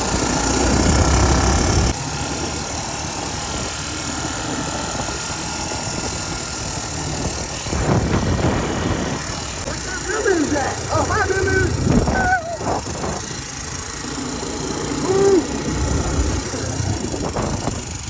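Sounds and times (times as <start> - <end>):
wind rush on microphone: 0.0 - 10.1, 10.7 - 14.0, 14.6 - 18.0
dirt bike engine running: 0.0 - 18.0.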